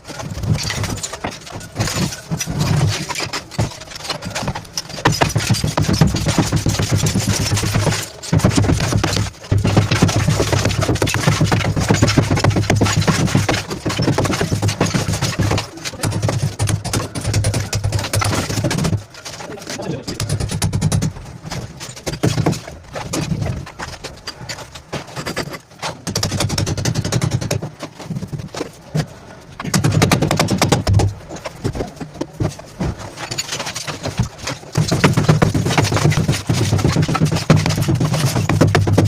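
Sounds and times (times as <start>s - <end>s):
demolition hammer chiselling: 0.0s - 28.7s, 29.6s - 39.0s.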